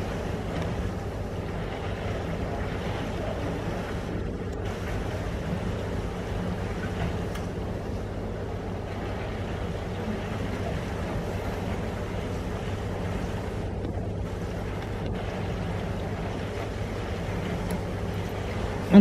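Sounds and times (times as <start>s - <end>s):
constant hum: 0.0s - 19.0s.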